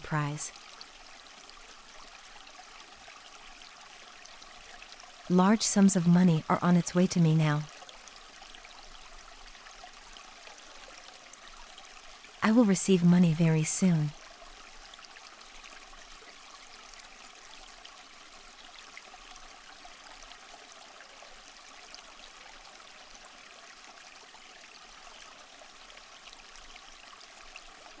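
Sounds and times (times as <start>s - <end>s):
water stream flowing: 0.0s - 28.0s.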